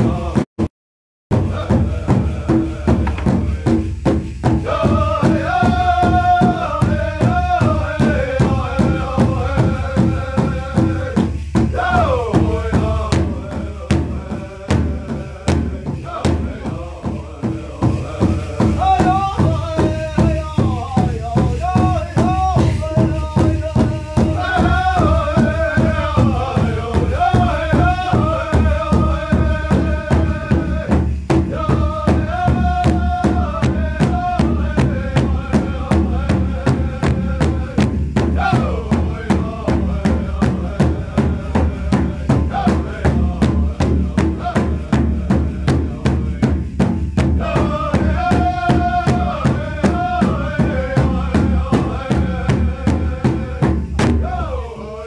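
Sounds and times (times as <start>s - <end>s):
large drum beating: 1.3s - 54.8s.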